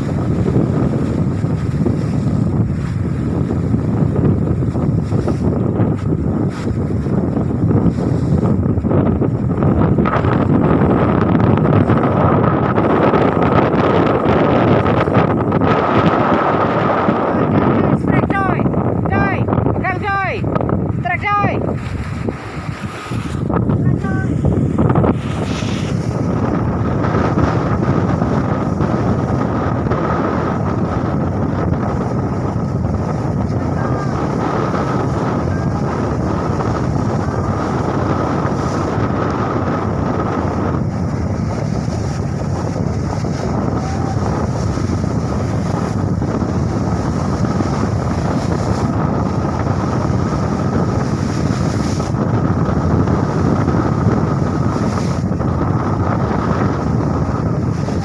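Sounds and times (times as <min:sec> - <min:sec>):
water washing under boat: 0:00.0 - 0:58.0
wind buffeting microphone: 0:00.0 - 0:58.0.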